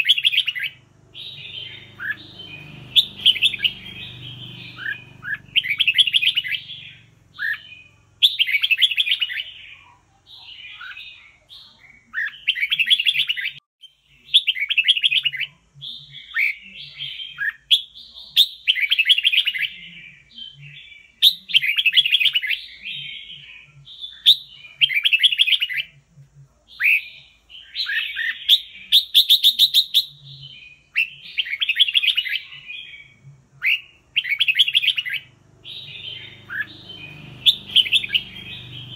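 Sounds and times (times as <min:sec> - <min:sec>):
bird singing warbled phrases: 0:00.0 - 0:38.9.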